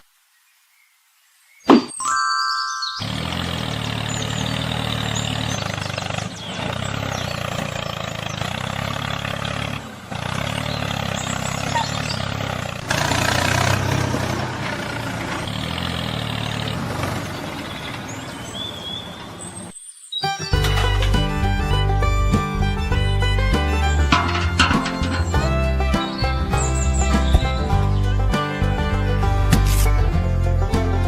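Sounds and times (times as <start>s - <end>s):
truck engine running: 3.0s - 19.6s, 20.5s - 31.0s.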